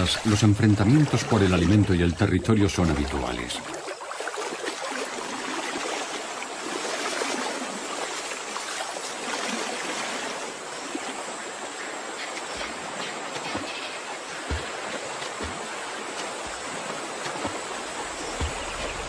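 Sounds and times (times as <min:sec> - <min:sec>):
river water rushing and splashing: 0:00.0 - 0:19.0.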